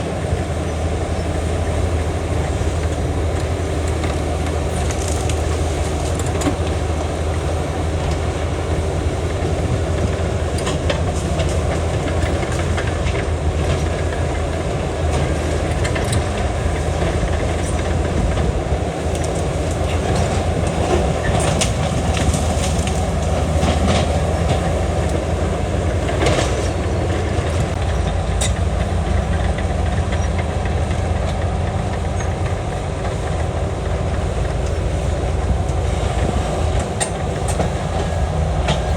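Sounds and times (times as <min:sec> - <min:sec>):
bulldozer diesel engine: 0:00.0 - 0:38.9
track clatter: 0:00.0 - 0:38.9.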